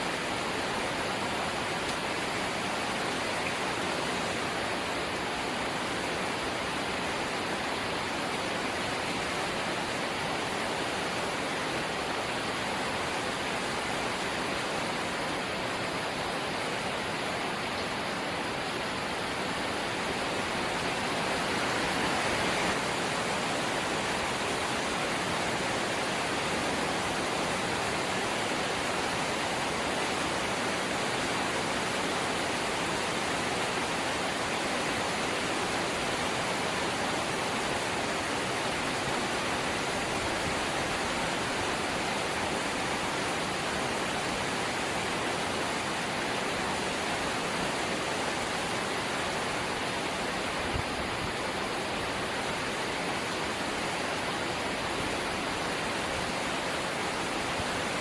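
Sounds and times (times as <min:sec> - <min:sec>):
light rain hissing: 0:00.0 - 0:58.0.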